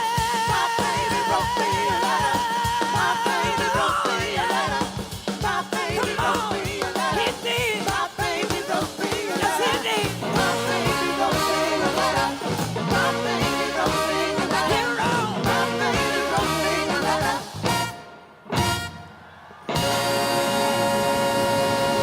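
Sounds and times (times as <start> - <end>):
drums keeping steady beat: 0.0 - 19.0
live band playing: 0.0 - 22.0.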